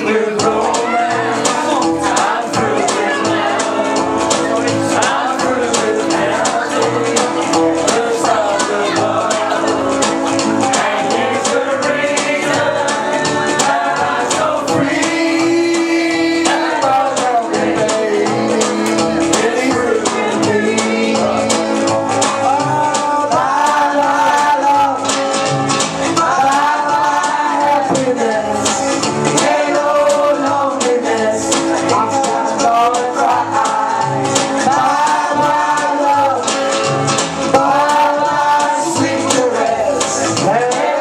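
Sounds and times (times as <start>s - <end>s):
backing track with steady beat: 0.0s - 41.0s
person singing: 0.0s - 41.0s.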